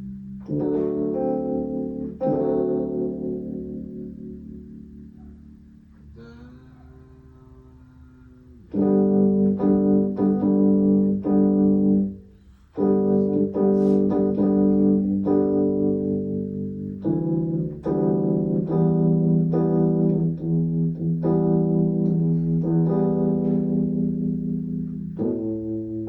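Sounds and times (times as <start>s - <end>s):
keyboard playing chords: 0.0s - 26.0s.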